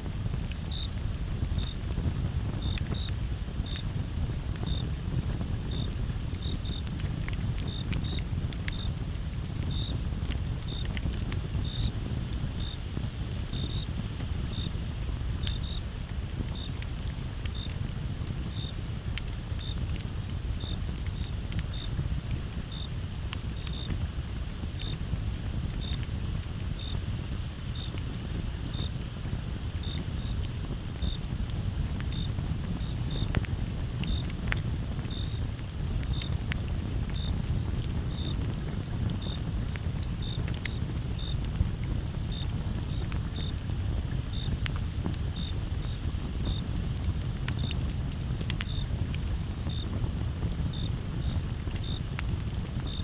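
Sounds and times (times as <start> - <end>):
campfire crackling and popping: 0.0 - 53.0
cricket chirping: 0.2 - 53.0
high cricket trill: 0.4 - 52.1.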